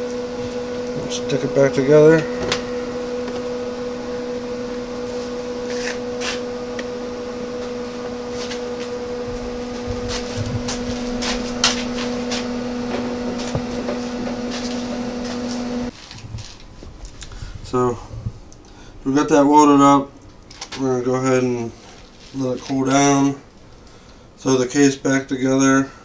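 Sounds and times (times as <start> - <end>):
electric machine hum: 0.0 - 26.0.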